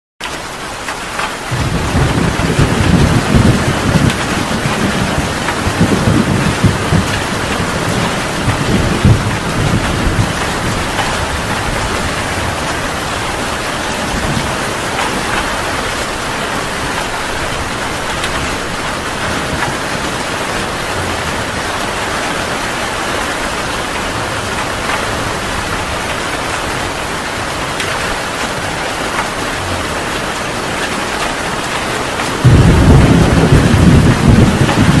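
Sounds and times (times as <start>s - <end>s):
heavy rain falling: 0.2s - 35.0s
thunder rumbling: 1.2s - 35.0s.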